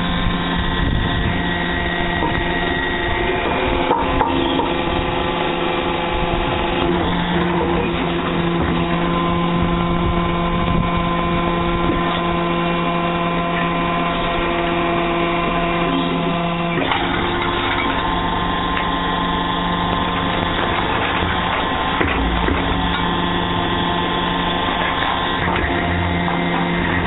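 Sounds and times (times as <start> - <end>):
brick-making machine humming: 0.0 - 27.0.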